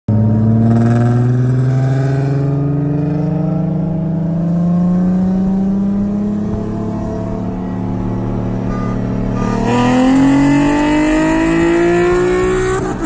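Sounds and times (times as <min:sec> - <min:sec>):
car engine at full throttle: 0:00.1 - 0:13.0.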